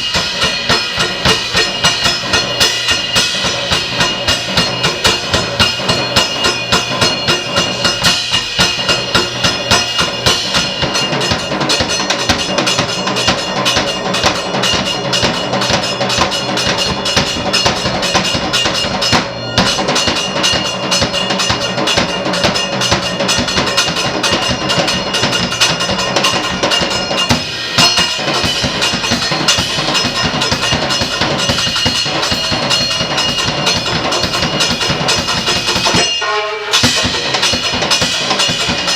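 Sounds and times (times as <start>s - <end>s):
rapid dense drumming: 0.0s - 38.9s
ringing tones: 0.0s - 38.9s.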